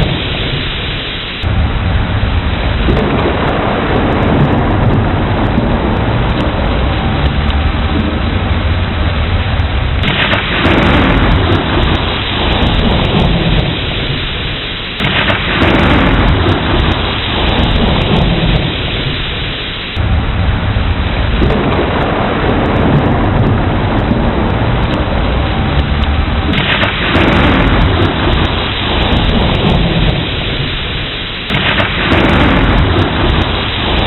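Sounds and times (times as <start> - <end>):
heavy rain: 0.0 - 34.0
thunderclaps rumbling: 0.0 - 34.0.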